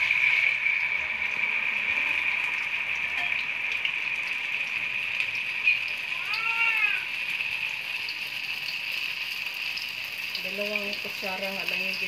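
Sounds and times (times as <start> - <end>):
tofu sizzling in oil: 0.0 - 12.0.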